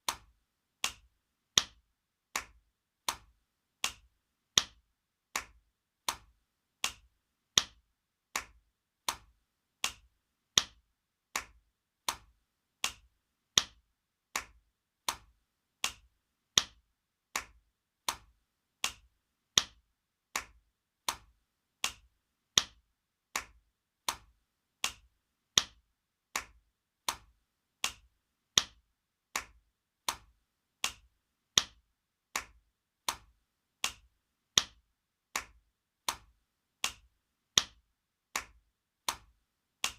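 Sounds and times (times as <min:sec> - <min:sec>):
hand slaps: 0:00.0 - 0:39.9.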